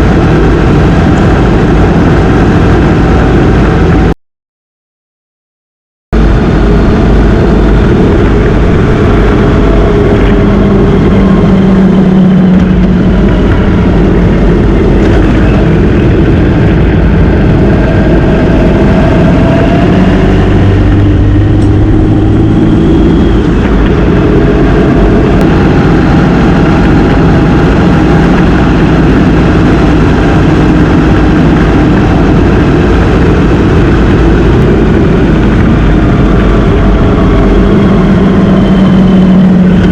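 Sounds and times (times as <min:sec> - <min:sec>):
motorcycle engine revving: 0:00.0 - 0:04.1, 0:06.2 - 0:39.9
wind on microphone: 0:00.0 - 0:04.1, 0:06.2 - 0:39.9.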